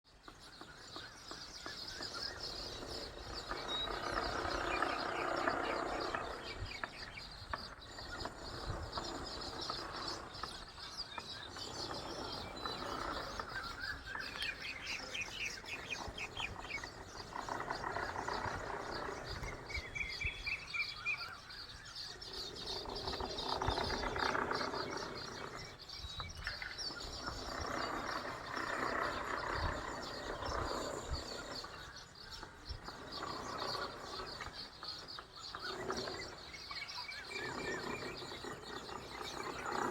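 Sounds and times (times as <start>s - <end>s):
flock of birds chirping: 0.0s - 39.9s
louder low bird calls: 0.1s - 39.9s.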